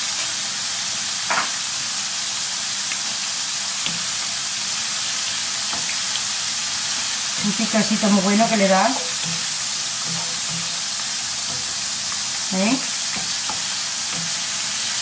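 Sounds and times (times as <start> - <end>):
potato slices sizzling in oil: 0.0 - 15.0.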